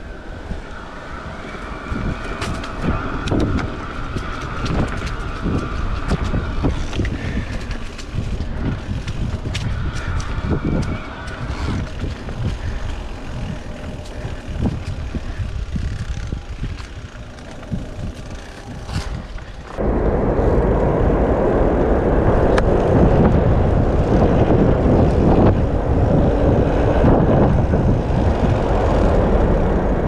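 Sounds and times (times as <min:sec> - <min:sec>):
bike rolling on dirt trail: 0:00.0 - 0:30.0
wind on microphone: 0:00.0 - 0:30.0.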